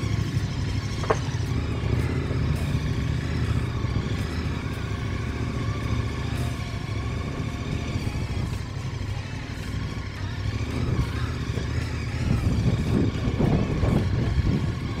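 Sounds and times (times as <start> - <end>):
motorcycle engine running slowly: 0.0 - 15.0.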